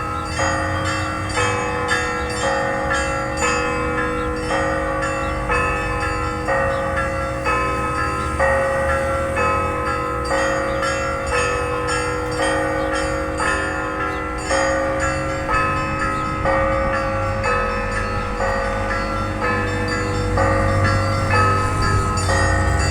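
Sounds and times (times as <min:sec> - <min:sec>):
church bells ringing: 0:00.0 - 0:22.9.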